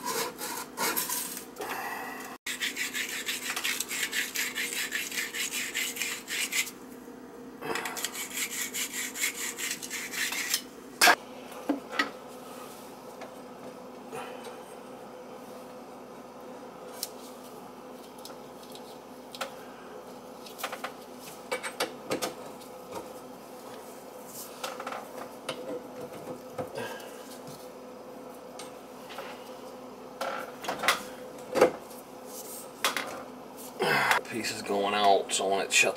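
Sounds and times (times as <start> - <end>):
faint hum: 0.2 - 35.9.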